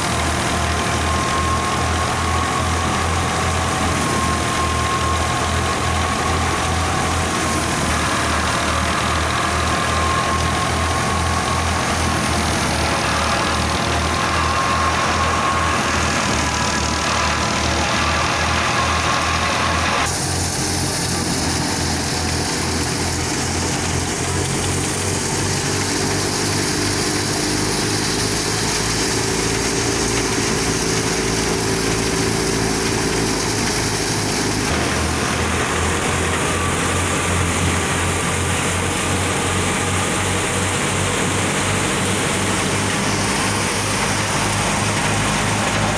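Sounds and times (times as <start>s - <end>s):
thresher drum and belts whirring: 0.0s - 45.9s
tractor engine pulse: 0.0s - 45.9s.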